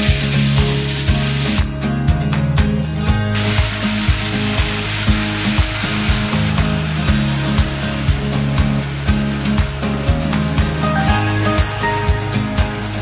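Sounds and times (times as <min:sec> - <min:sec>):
chicken sizzling in oil: 0:00.0 - 0:01.7, 0:03.1 - 0:13.0
background music with steady beat: 0:00.0 - 0:13.0.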